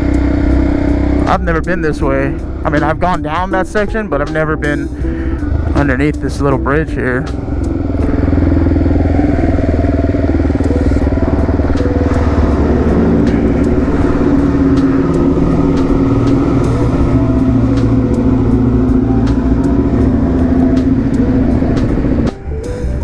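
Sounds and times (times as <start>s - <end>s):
motorcycle engine at low speed: 0.0s - 23.0s.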